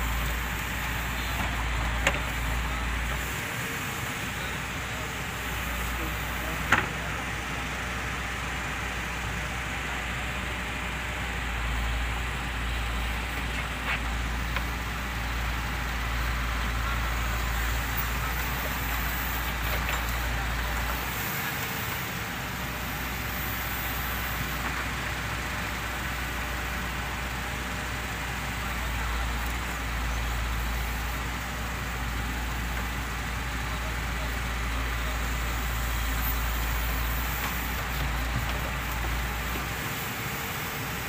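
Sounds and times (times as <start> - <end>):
diesel engine running under load: 0.0 - 41.0.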